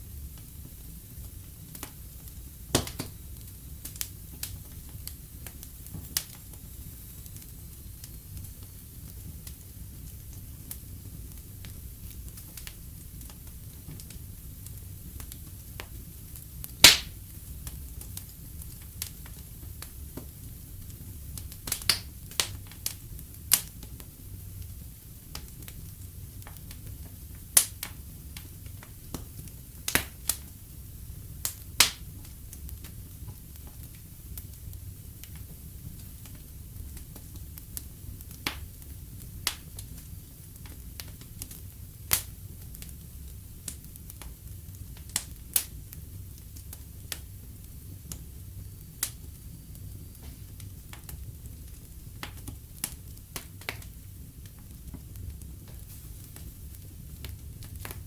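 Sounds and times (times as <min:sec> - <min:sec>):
low steady fire rumble: 0:00.0 - 0:58.0
wood fire crackling and popping: 0:00.0 - 0:58.0.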